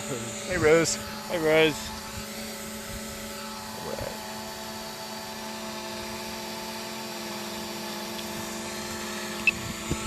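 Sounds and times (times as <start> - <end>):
drone propellers buzzing: 0.0 - 10.0.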